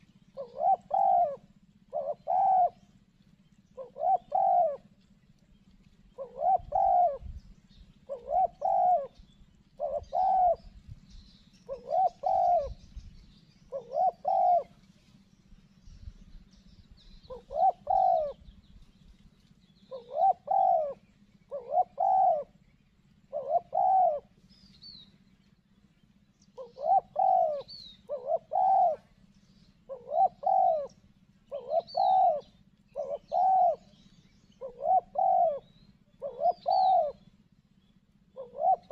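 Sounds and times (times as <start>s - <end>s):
dove cooing: 0.0s - 15.2s, 17.0s - 18.8s, 19.6s - 25.3s, 26.2s - 37.5s, 38.2s - 38.9s.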